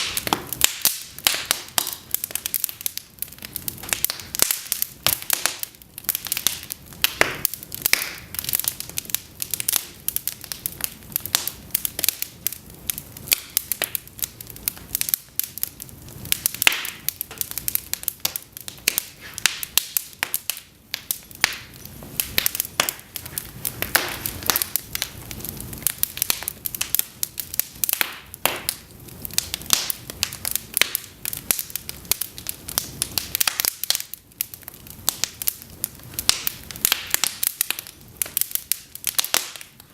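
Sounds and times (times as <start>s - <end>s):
logs crackling and popping: 0.0s - 39.9s
low rush of flame: 0.0s - 39.9s.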